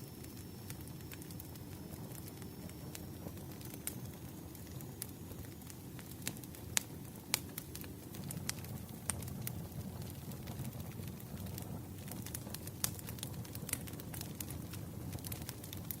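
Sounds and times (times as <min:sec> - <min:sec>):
low rumble of flames: 0:00.0 - 0:16.0
burning wood popping and snapping: 0:00.7 - 0:16.0.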